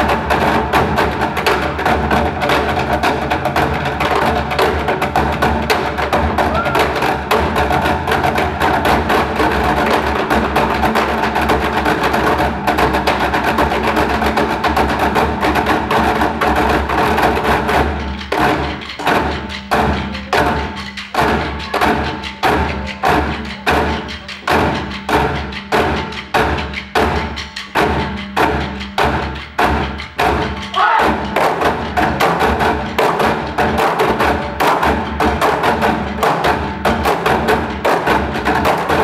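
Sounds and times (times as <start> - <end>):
sticks drumming on plastic barrels: 0.0 - 39.0.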